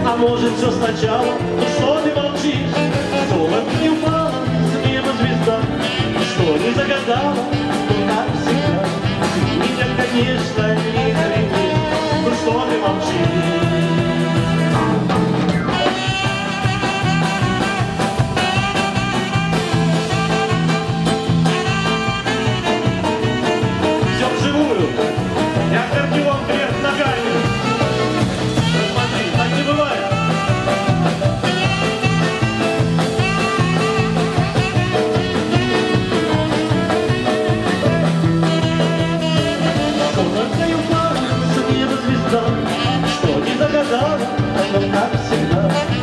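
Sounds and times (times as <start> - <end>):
live band playing swing music: 0.0 - 46.0.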